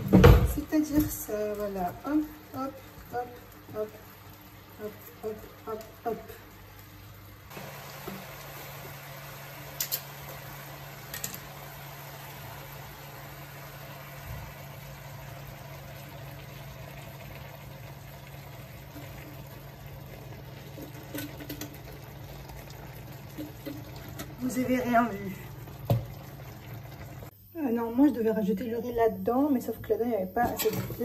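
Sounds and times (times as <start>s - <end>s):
stove humming and hissing: 0.0s - 31.0s.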